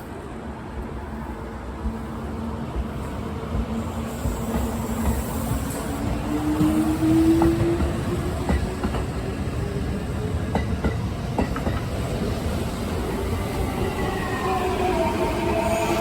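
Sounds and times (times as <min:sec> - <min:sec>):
electric train rumbling: 0:00.0 - 0:16.0
train whine: 0:00.0 - 0:16.0.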